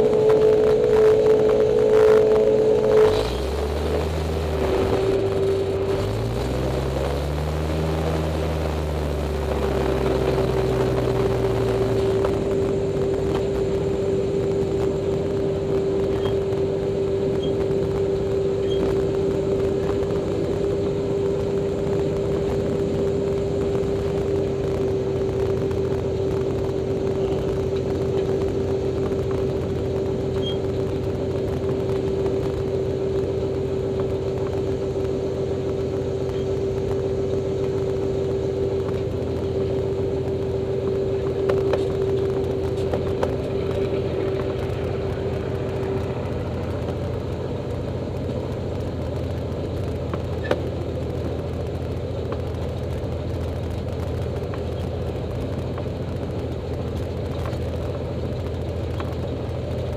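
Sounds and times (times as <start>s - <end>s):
propeller plane engine running: 0.0s - 59.9s
steady hum: 0.0s - 59.9s.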